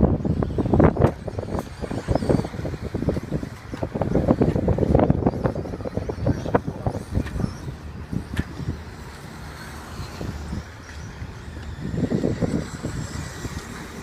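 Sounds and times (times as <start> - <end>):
rc trucks high whine: 0.0 - 14.0
wind buffeting microphone: 0.0 - 14.0.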